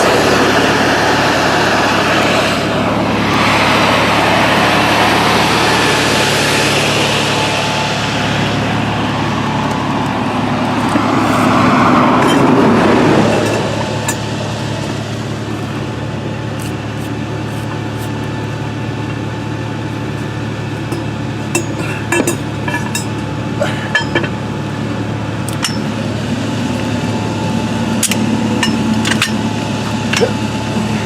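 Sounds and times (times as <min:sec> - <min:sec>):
low engine hum: 0:00.0 - 0:31.0
vehicles passing: 0:00.0 - 0:31.0.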